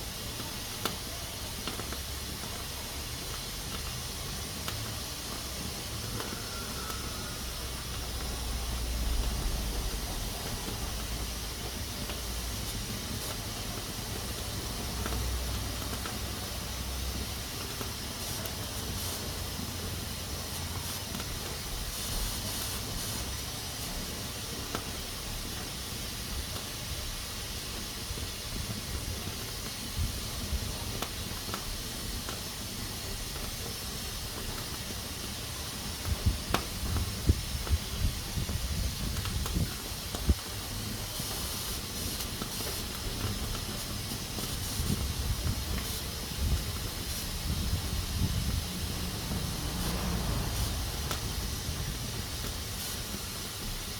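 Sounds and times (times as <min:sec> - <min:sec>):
pressure cooker hissing: 0:00.0 - 0:53.9.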